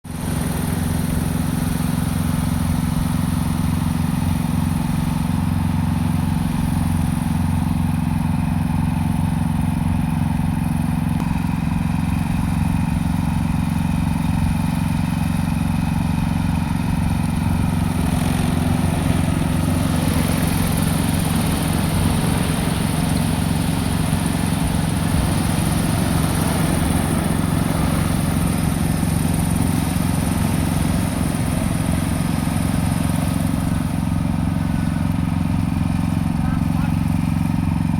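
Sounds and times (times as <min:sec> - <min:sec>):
drone propellers humming: 0:00.1 - 0:37.9.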